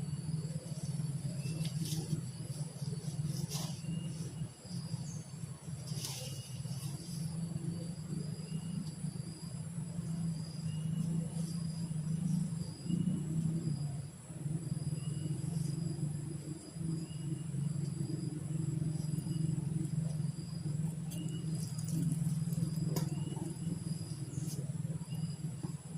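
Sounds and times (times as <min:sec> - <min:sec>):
insects humming: 0:00.0 - 0:25.9
low steady rumble: 0:00.0 - 0:25.9.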